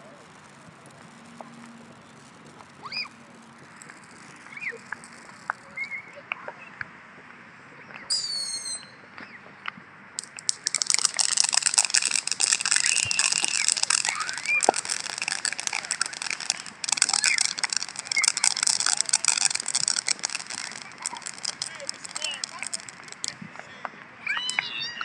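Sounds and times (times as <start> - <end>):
firework fountain crackling: 0.0 - 6.6, 10.2 - 23.7.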